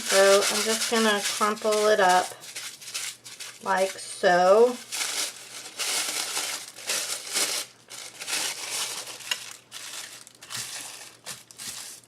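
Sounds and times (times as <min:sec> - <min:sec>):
tissue paper crumpling: 0:00.0 - 0:04.0, 0:04.6 - 0:12.0.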